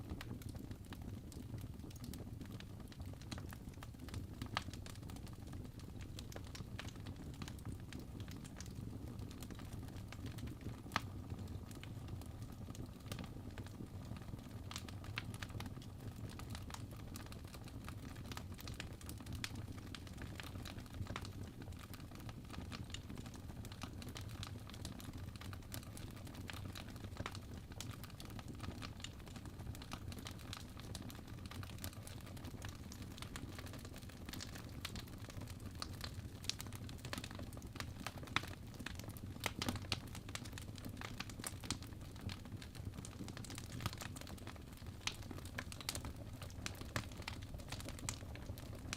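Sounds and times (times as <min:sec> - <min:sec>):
low rumble of burning: 0:00.0 - 0:48.9
wood fire crackling: 0:00.1 - 0:48.9.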